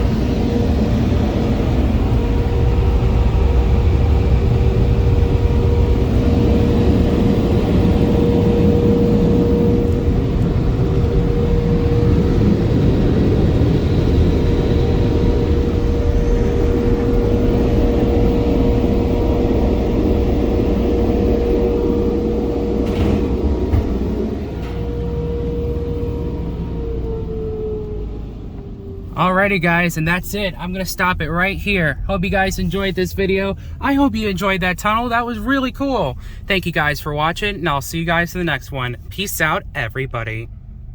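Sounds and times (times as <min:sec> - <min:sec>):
dryer blowers rushing air: 0:00.0 - 0:39.7.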